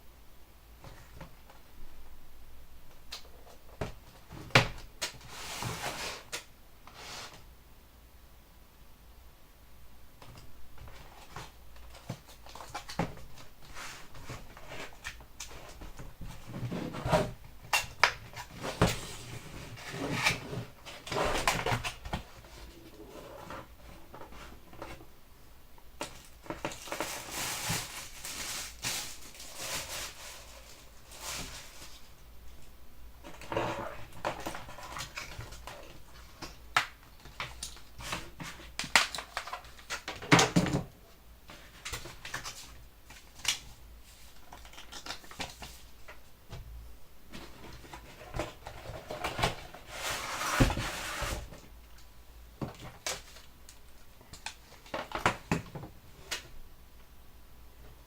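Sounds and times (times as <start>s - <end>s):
cardboard and plastic rustling: 3.0s - 7.5s, 10.2s - 25.2s, 26.0s - 56.6s.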